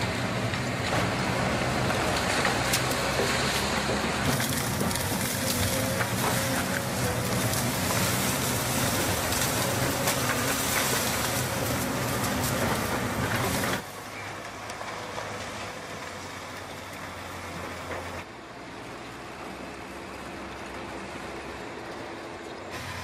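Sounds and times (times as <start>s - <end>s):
heavy engine running rough: 0.0s - 23.0s
low engine hum: 0.0s - 23.0s.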